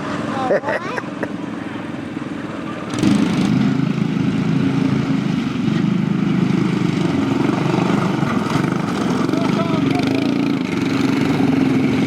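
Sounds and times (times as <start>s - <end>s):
small engine buzzing: 1.3s - 12.0s.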